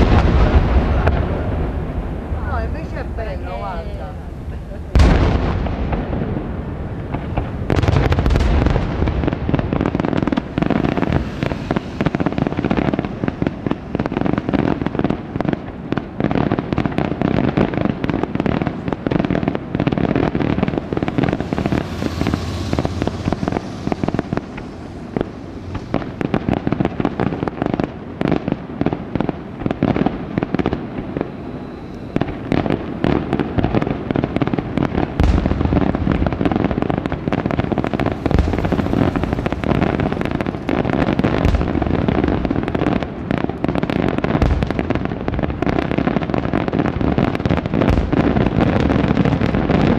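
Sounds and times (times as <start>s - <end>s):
fireworks bursting and crackling: 0.0s - 49.9s
heavy firework booms: 0.0s - 49.9s.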